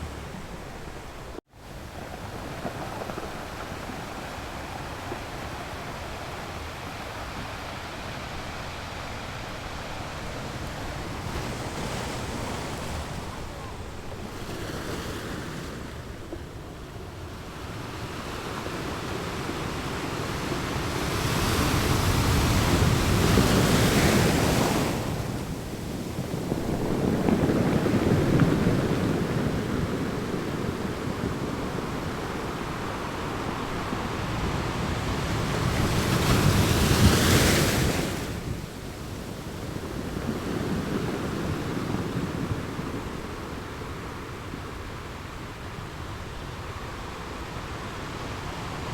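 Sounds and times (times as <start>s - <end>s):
ocean waves breaking on shore: 0.0s - 48.9s.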